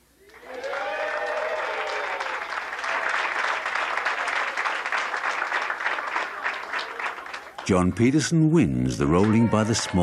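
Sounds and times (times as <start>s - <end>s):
crowd applauding: 0.2s - 8.3s, 8.9s - 10.0s.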